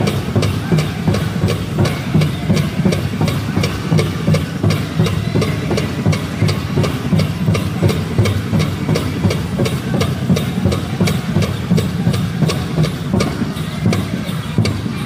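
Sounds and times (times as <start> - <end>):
large drum fast beat: 0.0 - 15.0.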